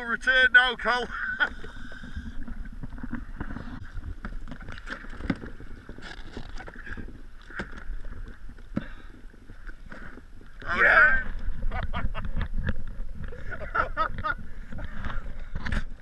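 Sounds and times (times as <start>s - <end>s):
wind rumble on microphone: 1.9s - 16.0s.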